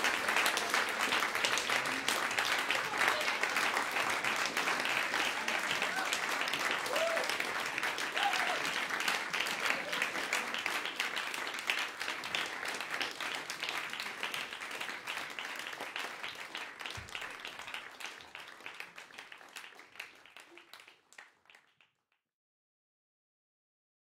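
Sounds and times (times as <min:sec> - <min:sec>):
audience applauding: 0:00.0 - 0:21.9.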